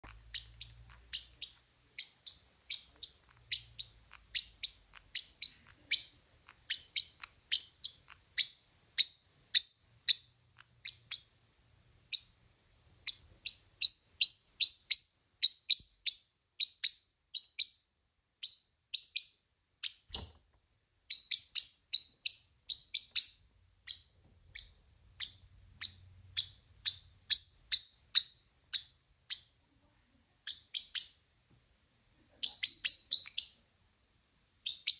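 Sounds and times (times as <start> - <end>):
small bird chirping: 0.0 - 11.4, 12.0 - 20.4, 21.0 - 29.7, 30.4 - 31.4, 32.3 - 33.7, 34.6 - 34.9.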